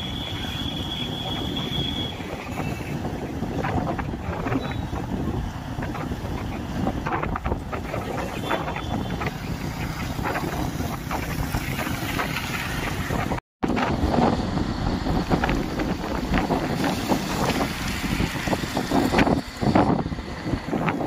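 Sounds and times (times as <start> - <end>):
vehicle road noise: 0.0 - 21.0
wind buffeting microphone: 0.0 - 21.0.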